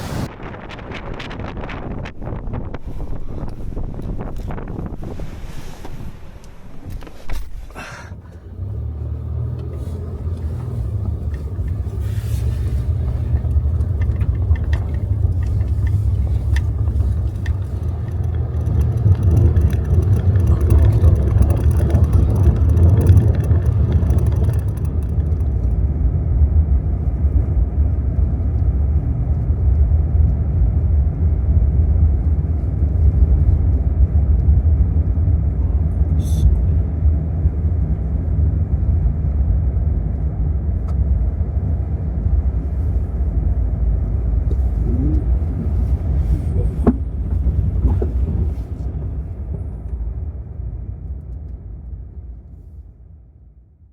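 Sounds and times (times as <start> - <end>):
van engine and road rumble: 0.0 - 53.9.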